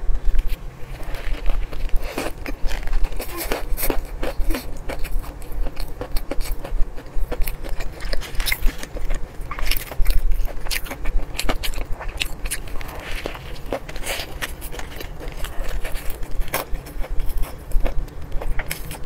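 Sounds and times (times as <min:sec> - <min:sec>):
chewing with wet mouth clicks: 0:01.4 - 0:19.0.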